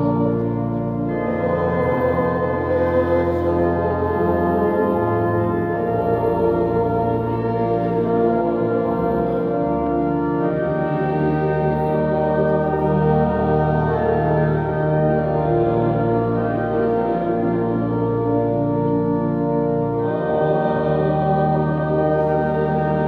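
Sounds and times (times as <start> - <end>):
organ playing slow chords: 0.0 - 23.0.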